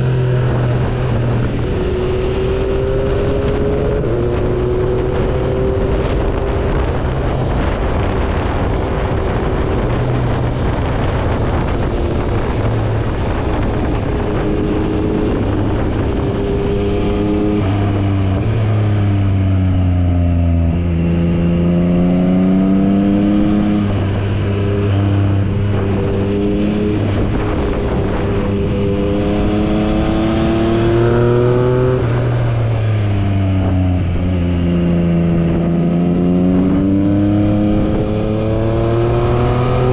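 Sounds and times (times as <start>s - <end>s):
motorcycle engine under way: 0.0s - 39.9s
wind rushing over microphone: 0.0s - 39.9s.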